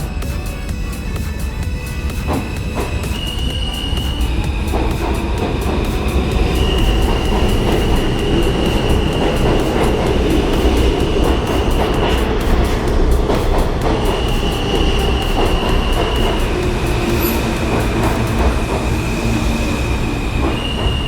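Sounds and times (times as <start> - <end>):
high-pitched whine: 0.0 - 21.0
subway train rumble: 0.0 - 21.0.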